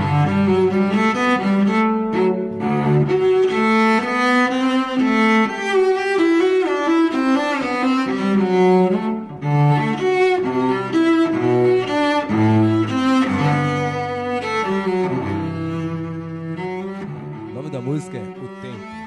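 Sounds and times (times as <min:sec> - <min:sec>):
instrumental music with low notes: 0:00.0 - 0:19.0.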